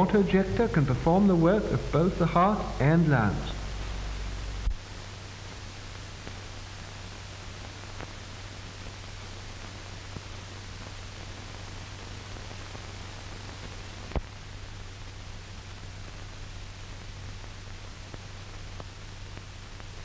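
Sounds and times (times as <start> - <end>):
faint crackles: 0.0 - 20.0
film soundtrack hiss and hum: 0.0 - 20.0.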